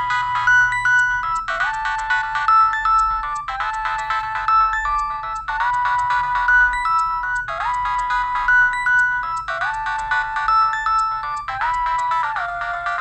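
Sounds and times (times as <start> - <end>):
mobile phone ringtone: 0.0 - 13.0.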